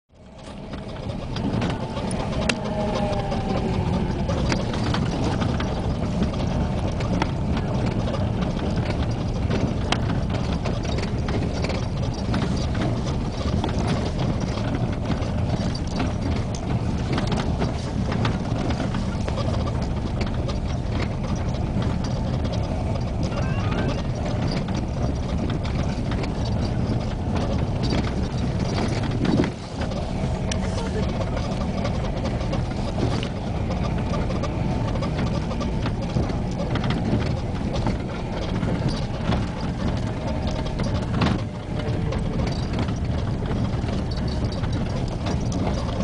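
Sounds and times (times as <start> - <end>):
vehicle road rumble: 0.1 - 46.0.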